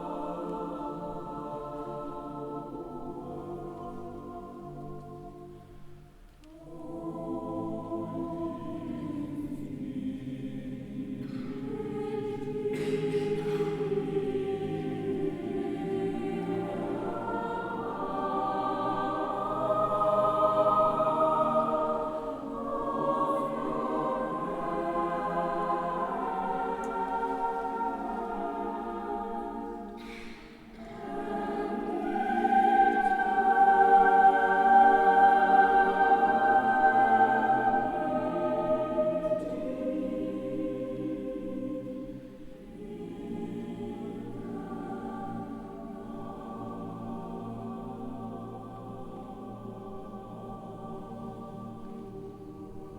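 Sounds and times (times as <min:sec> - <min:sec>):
choir singing sustained chords: 0:00.0 - 0:52.9.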